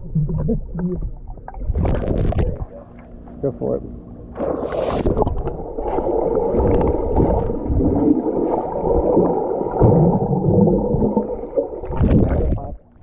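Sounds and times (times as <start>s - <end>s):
muffled underwater splashes and bubbles: 0.0s - 3.4s, 4.2s - 13.0s.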